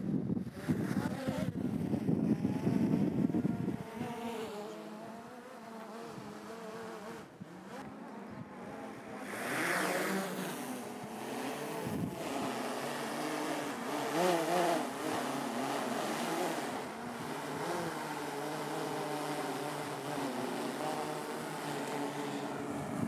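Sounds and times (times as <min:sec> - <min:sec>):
drone propellers buzzing: 0:00.2 - 0:23.0.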